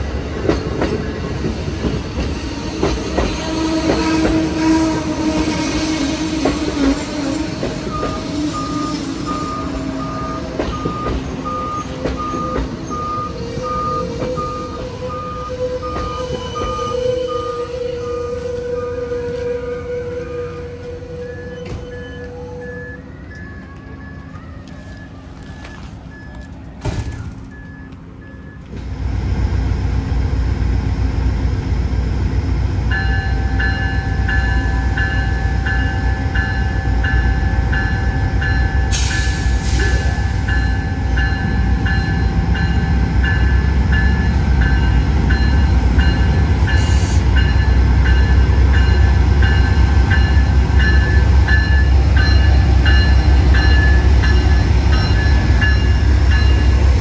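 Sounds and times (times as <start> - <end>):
diesel locomotive rumbling: 0.0 - 57.0.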